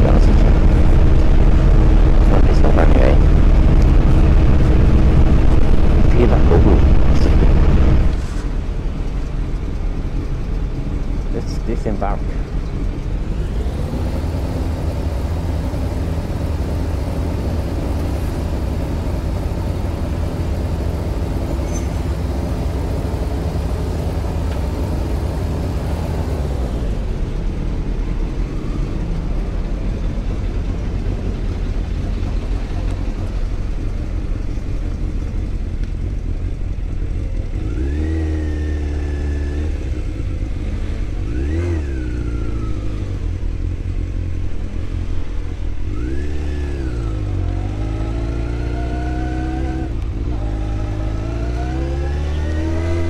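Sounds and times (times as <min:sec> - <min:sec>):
motorcycle engine running and revving: 0:00.0 - 0:53.0.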